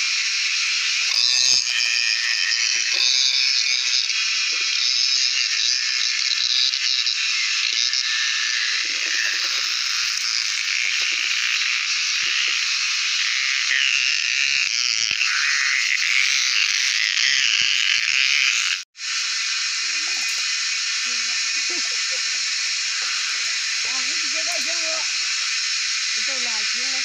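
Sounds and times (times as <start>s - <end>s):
cicadas buzzing: 0.0s - 27.0s.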